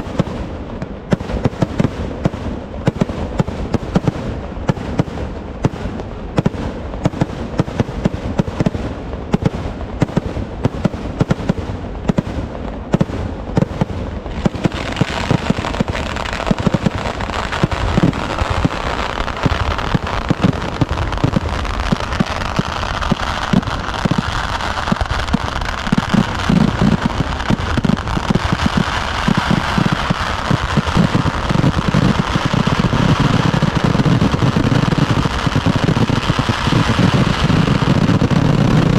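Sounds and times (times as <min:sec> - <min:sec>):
fireworks exploding in rapid barrage: 0:00.0 - 0:38.9.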